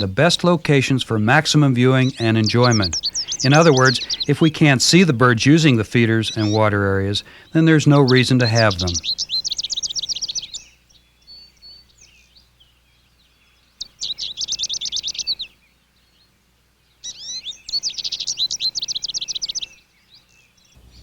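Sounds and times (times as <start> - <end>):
soft bird chirps: 0.0 - 21.0
songbird singing rapid trills: 0.0 - 21.0.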